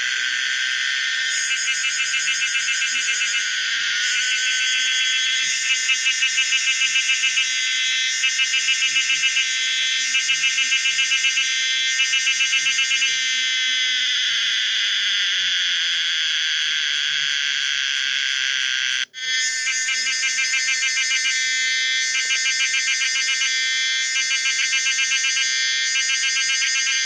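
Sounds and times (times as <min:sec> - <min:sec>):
cicada pulsing call: 0:00.0 - 0:27.0
continuous high cicada buzz: 0:00.0 - 0:27.0.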